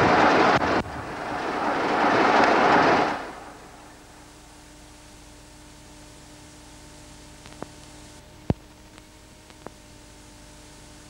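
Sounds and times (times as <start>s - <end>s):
steady hiss with low hum: 0.0s - 11.0s.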